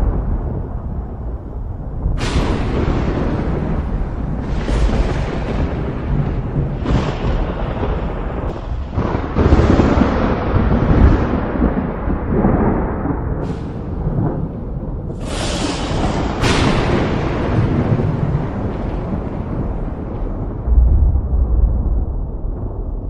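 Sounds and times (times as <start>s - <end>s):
steady rain: 0.0s - 23.0s
thunder rolling and cracking: 0.0s - 23.0s.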